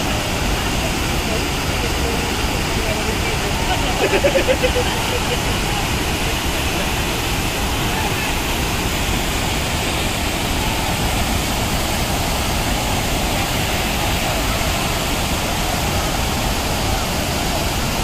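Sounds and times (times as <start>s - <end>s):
water rushing over dam overflow: 0.0s - 18.0s.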